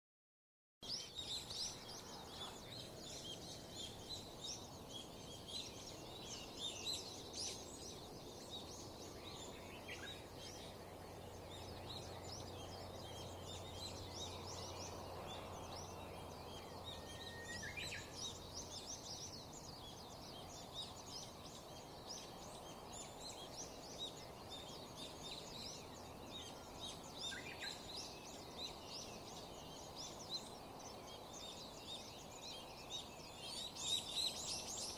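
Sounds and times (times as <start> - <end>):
songbirds chirping: 0.8 - 34.9
whistled bird notes: 0.8 - 34.9.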